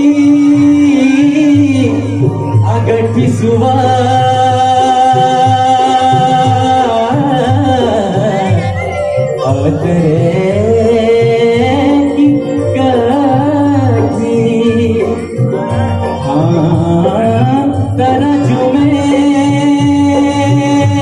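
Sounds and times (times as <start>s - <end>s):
folk song singing: 0.0s - 21.0s
instrumental backing: 0.0s - 21.0s.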